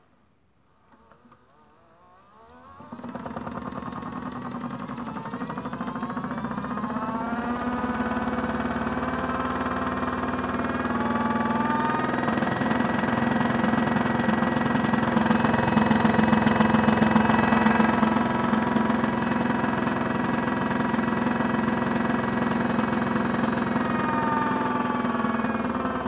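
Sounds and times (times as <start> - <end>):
whining tone: 2.2 - 26.0
toy washing machine motor humming: 2.3 - 26.0.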